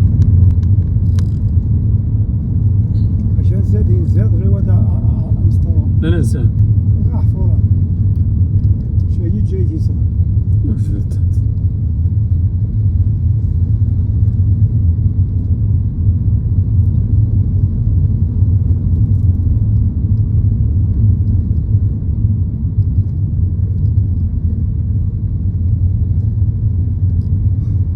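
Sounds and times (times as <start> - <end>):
loud low rumble: 0.0 - 27.9.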